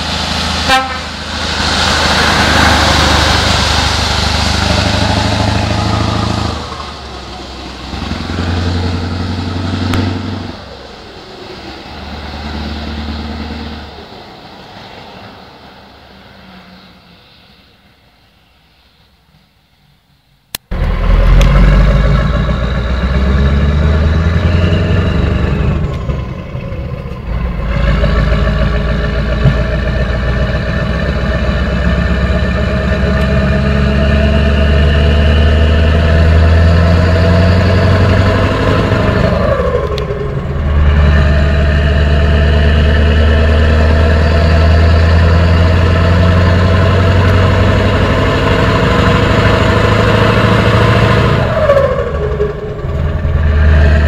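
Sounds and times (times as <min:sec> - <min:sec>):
diesel truck engine running: 0:00.0 - 0:14.7, 0:20.6 - 0:54.0.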